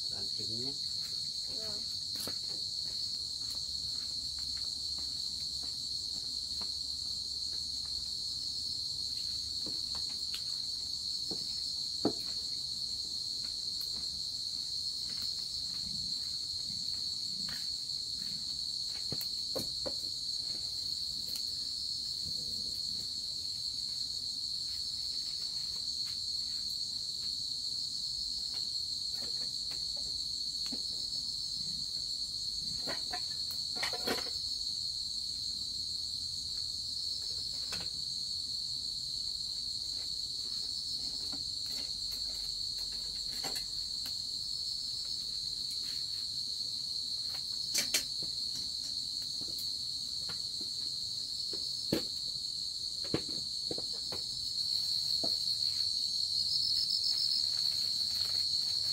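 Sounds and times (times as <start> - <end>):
insect chorus trilling: 0.0 - 6.2, 8.2 - 58.9.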